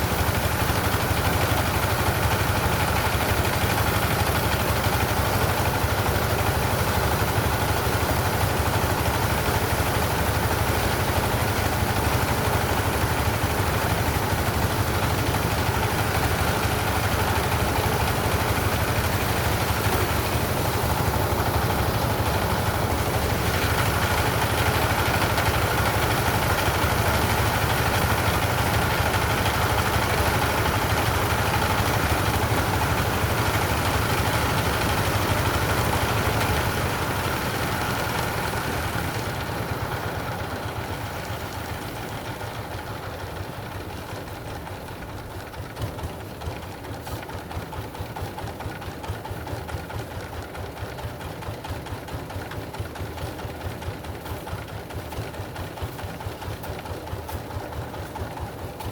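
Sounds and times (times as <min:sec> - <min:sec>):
engine running: 0:00.0 - 0:58.9.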